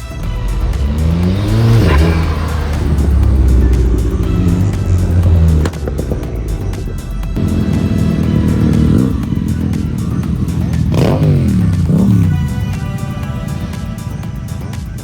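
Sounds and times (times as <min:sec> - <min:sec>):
car engine revving: 0:00.0 - 0:15.0
music: 0:00.0 - 0:15.0.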